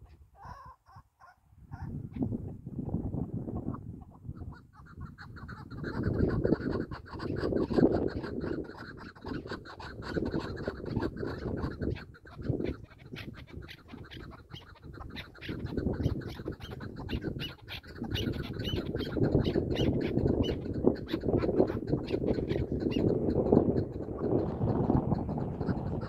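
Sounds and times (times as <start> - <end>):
partridges calling: 3.6 - 26.0.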